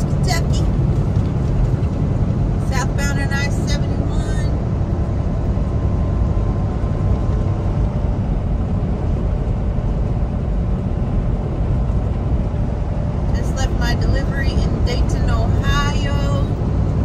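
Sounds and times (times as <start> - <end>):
road noise: 0.0 - 17.0
truck engine rumble: 0.0 - 17.0.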